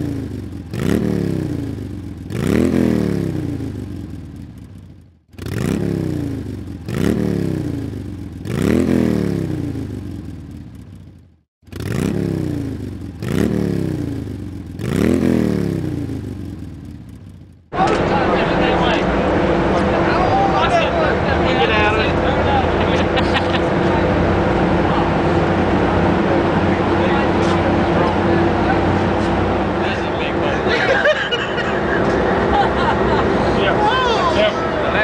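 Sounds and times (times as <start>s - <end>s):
motorcycle engine throttle blips: 0.0s - 30.7s.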